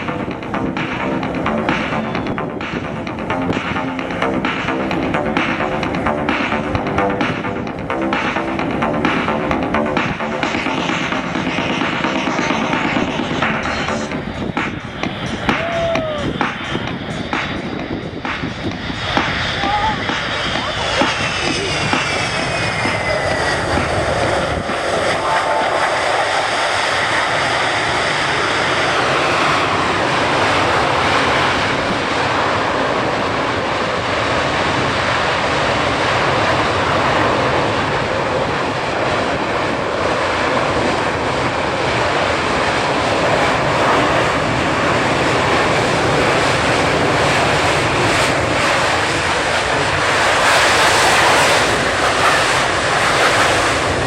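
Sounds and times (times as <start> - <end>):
high jet engine whine: 0.0 - 54.0
loud rushing jet noise: 0.0 - 54.0.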